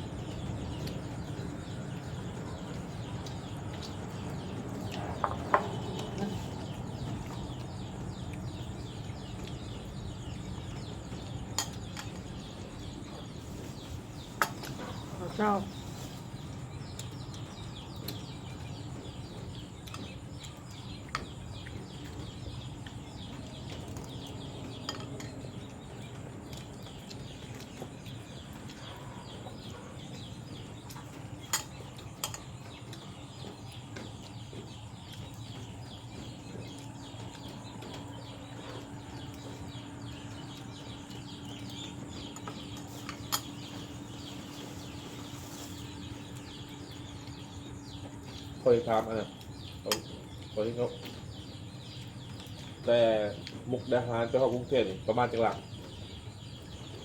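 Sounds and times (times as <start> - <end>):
birds: 0.0 - 57.0
insects: 0.0 - 57.0.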